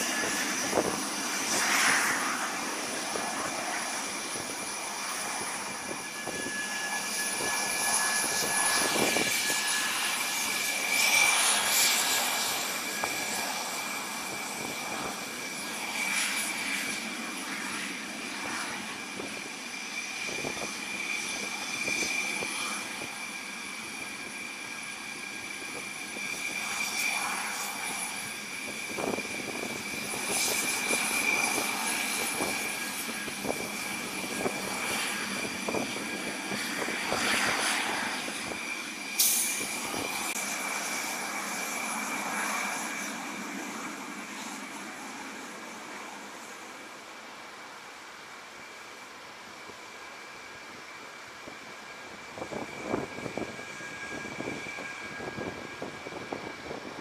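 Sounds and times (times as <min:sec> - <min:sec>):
propeller engines whining: 0:00.0 - 0:57.0.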